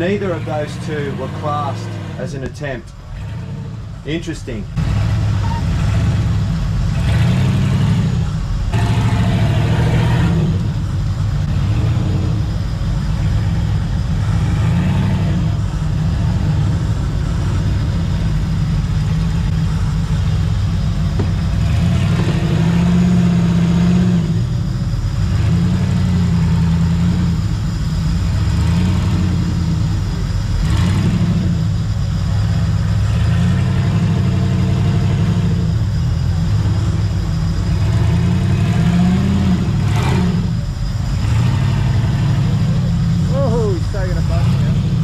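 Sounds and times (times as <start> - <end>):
off-road engine revving: 0.0 - 45.0.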